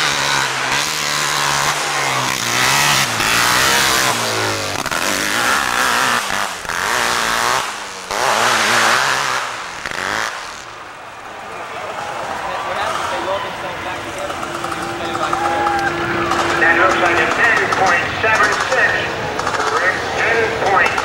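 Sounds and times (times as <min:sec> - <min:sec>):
motorcycle engine revving: 0:00.0 - 0:11.3, 0:12.0 - 0:21.0.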